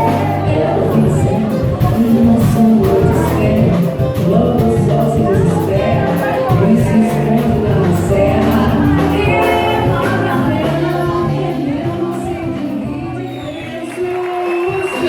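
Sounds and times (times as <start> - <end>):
steady bass line: 0.0 - 13.6
live band music: 0.0 - 15.0.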